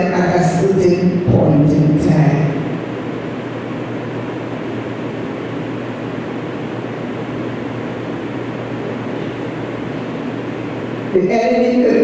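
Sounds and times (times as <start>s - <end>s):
fan running: 0.0s - 12.0s.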